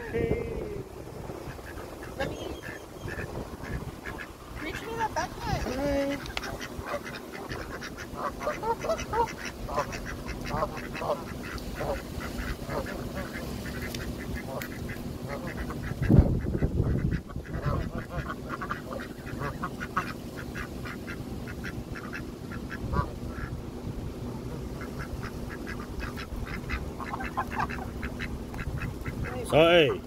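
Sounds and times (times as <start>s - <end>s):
ducks quacking: 1.1s - 23.6s, 24.3s - 30.0s.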